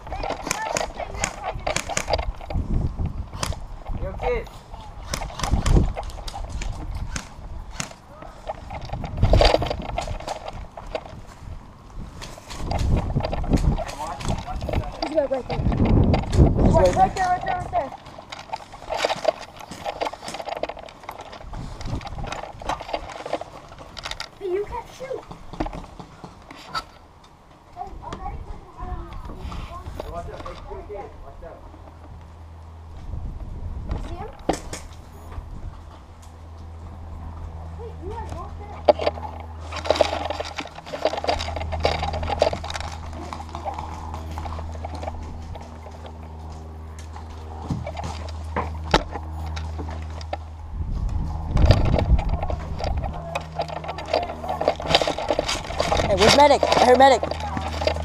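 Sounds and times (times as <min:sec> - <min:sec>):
gear rattling and scuffing: 0:00.0 - 0:27.1, 0:28.2 - 0:31.1, 0:33.9 - 0:58.0
steady low hum: 0:00.0 - 0:58.0.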